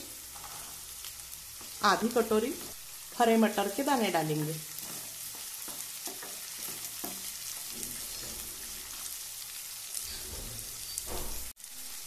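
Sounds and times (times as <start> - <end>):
vegetables sizzling in hot oil: 0.0 - 12.0
wooden spatula scraping a pan: 0.2 - 3.4, 4.0 - 9.2, 9.9 - 11.5.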